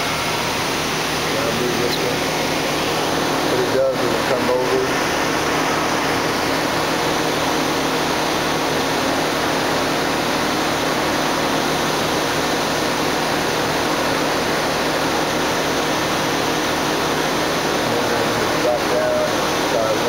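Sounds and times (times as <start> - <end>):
grinder with rushing coolant spray: 0.0 - 20.0.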